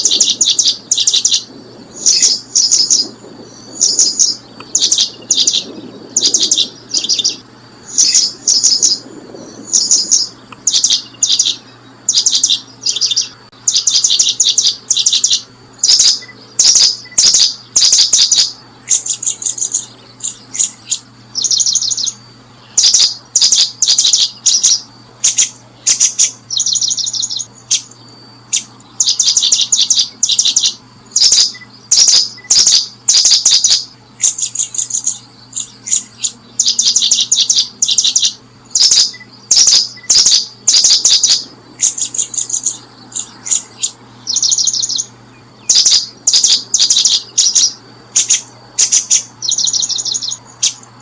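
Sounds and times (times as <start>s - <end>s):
songbird chirping in trilled bursts: 0.0s - 51.0s.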